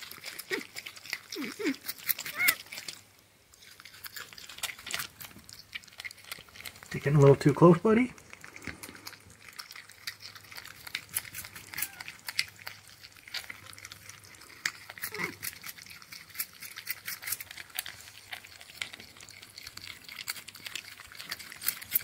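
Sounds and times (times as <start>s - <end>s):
porcupine chewing wet crunching: 0.0s - 22.0s.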